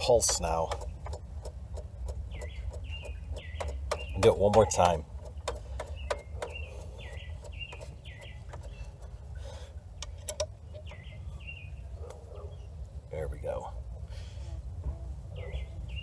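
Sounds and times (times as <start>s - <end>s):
bird chirping: 0.0s - 13.6s, 14.9s - 16.0s
low background rumble: 0.0s - 16.0s.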